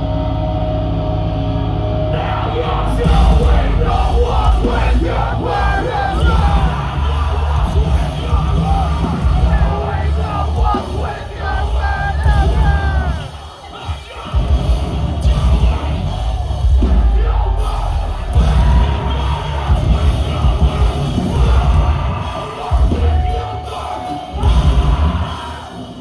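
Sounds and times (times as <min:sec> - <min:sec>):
distorted guitars: 0:00.0 - 0:26.0
yelled vocals: 0:00.0 - 0:26.0
pounding drums: 0:02.7 - 0:26.0.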